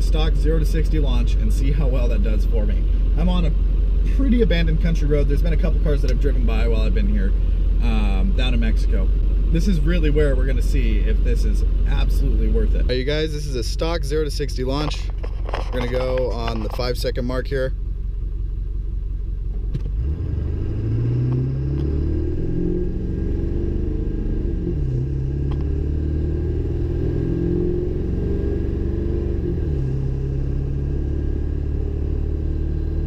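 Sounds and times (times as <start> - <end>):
diesel truck engine accelerating: 0.0 - 18.3, 18.9 - 33.0.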